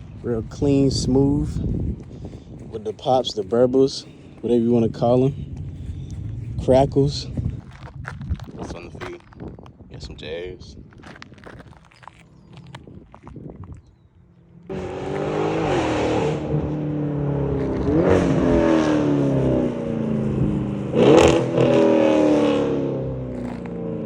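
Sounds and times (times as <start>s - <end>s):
car exhaust with throttle blips: 0.0s - 24.0s.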